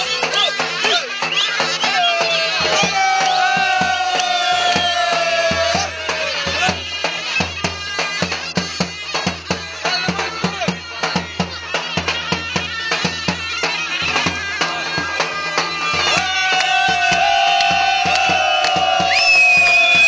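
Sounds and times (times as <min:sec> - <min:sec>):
heavy drum beating fast rhythm: 0:00.0 - 0:20.0.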